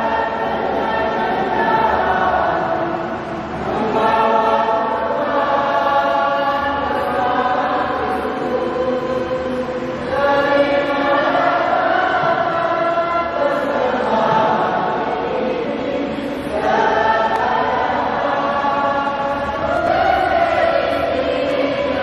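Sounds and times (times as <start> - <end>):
choir singing a hymn: 0.0 - 22.0.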